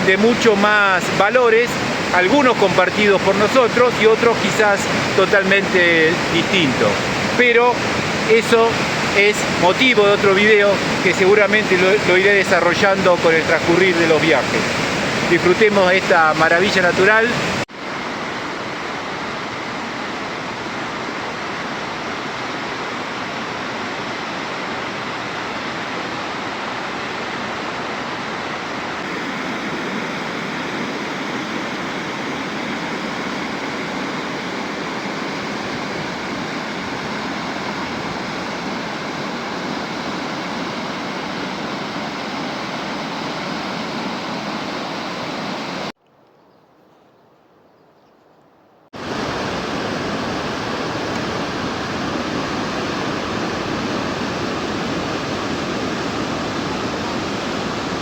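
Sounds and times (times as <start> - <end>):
waterfall roaring: 0.0 - 45.9, 49.0 - 58.0.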